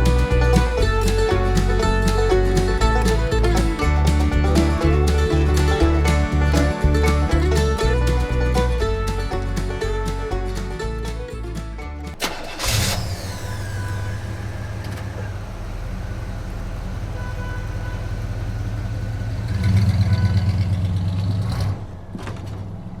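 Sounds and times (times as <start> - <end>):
low engine-like hum: 0.0 - 23.0.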